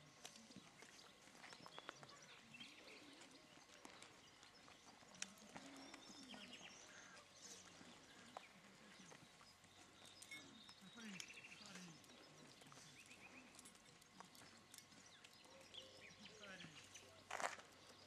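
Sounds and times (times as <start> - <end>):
distant murmuring voices: 0.0 - 18.0.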